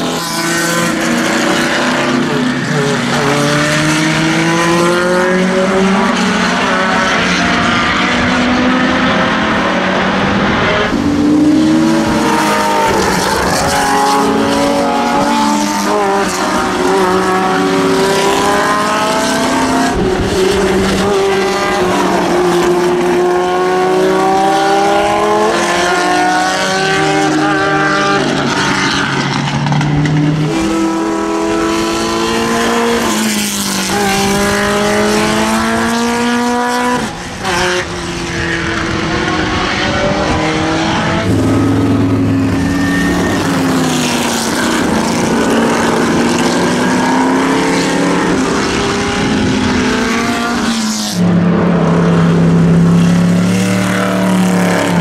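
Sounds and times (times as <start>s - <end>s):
racing car engines passing: 0.0s - 55.0s.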